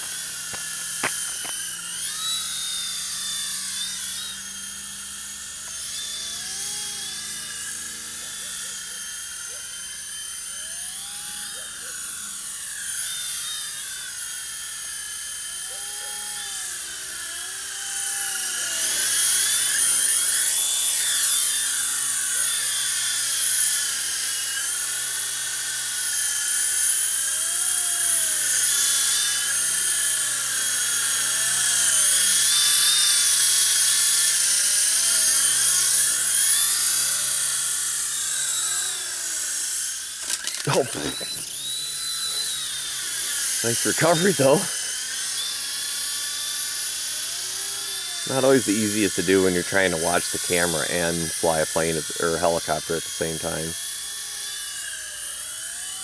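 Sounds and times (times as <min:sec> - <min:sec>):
rc helicopter rotor whine: 0:00.0 - 0:56.0.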